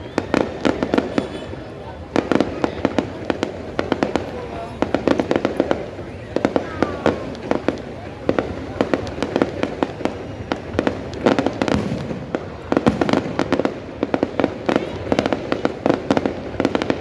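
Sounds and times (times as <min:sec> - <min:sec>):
fireworks bangs and pops: 0:00.0 - 0:17.0
fireworks crackle and rumble: 0:00.0 - 0:17.0.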